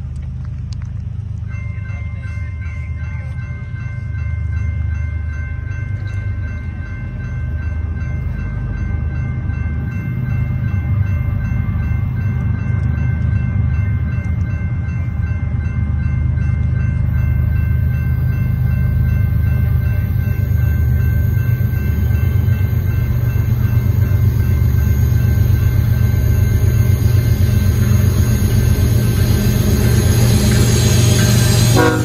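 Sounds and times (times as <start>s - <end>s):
train rumbling: 0.0s - 32.0s
steady high tone: 1.9s - 32.0s.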